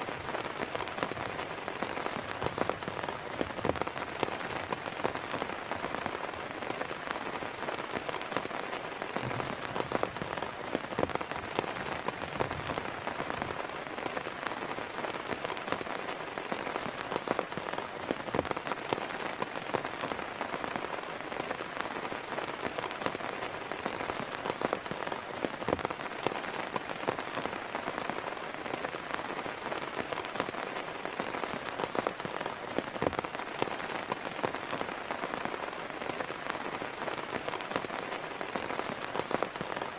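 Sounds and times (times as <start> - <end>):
heavy rain falling: 0.0 - 39.9
raindrops striking close by: 0.0 - 39.9.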